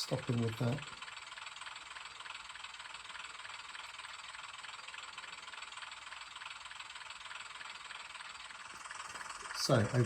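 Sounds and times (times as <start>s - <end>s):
diesel engine idle through small speaker: 0.0s - 10.0s.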